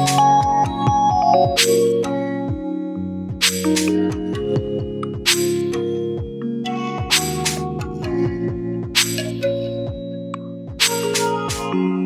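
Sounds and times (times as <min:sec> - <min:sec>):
synth chords over a beat: 0:00.0 - 0:12.0.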